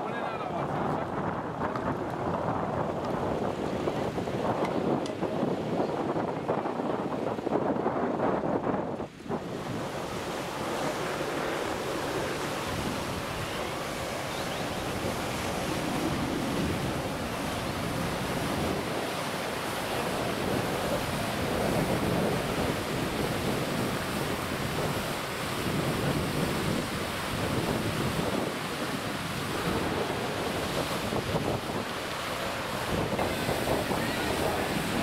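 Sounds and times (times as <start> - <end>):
wind blowing over microphone: 0.0 - 35.0.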